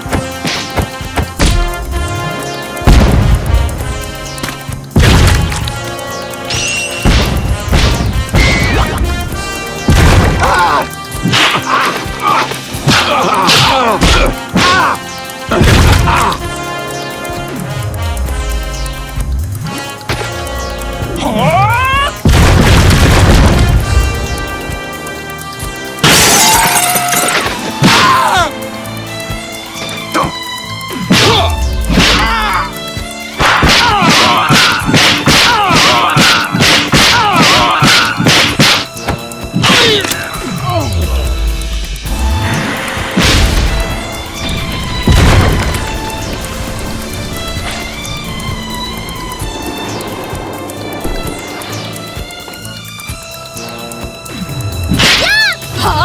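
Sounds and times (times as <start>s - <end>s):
background music: 0.0s - 56.0s.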